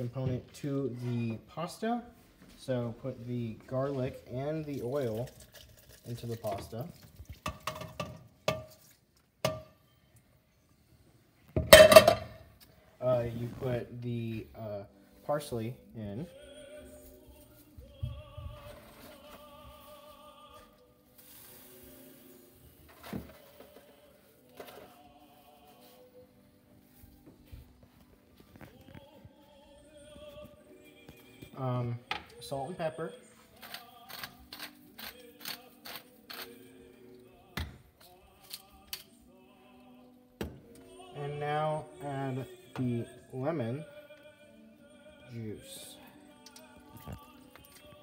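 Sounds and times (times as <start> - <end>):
soft music with held sung notes: 0.0 - 48.0.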